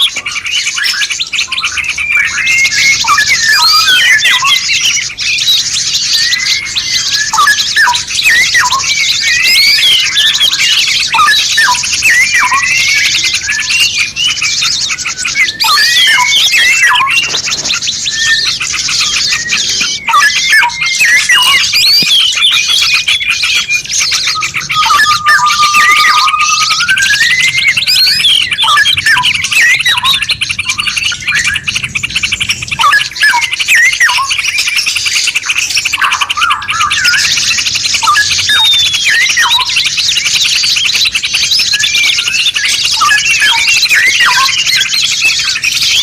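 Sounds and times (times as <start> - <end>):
high continuous chirring: 0.0 - 46.0
long steady bird whistle: 0.0 - 46.0
songbirds chirping and whistling: 0.0 - 46.0.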